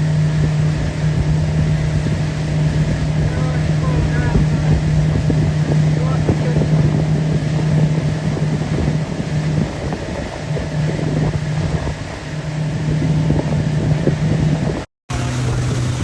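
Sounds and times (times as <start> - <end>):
outboard motor humming: 0.0 - 16.0
wind buffeting microphone: 0.0 - 16.0.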